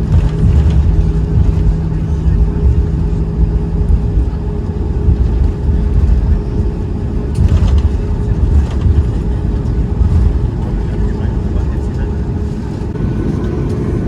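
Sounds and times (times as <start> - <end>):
aircraft cabin low rumble: 0.0 - 14.0
steady hum: 0.0 - 14.0.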